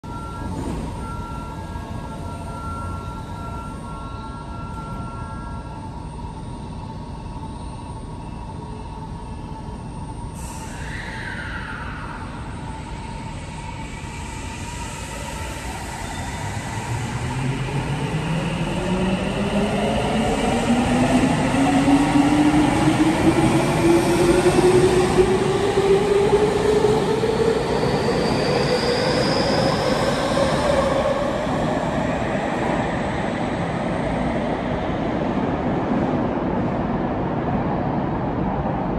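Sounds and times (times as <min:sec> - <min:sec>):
train inverter whine: 0:00.0 - 0:38.9.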